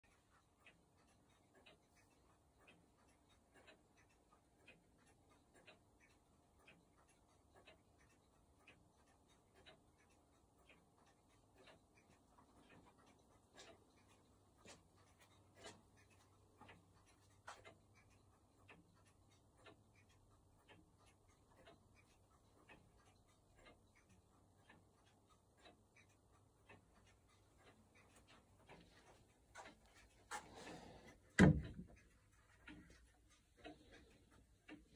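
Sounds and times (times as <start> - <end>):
clock ticking: 0.0 - 34.9.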